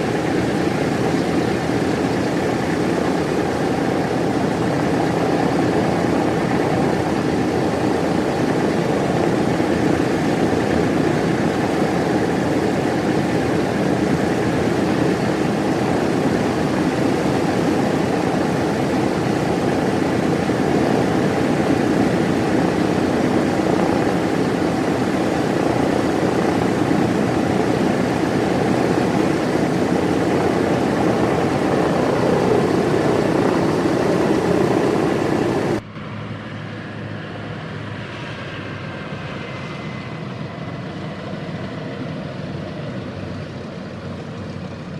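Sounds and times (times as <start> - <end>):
propeller aircraft engine running: 0.0 - 44.9.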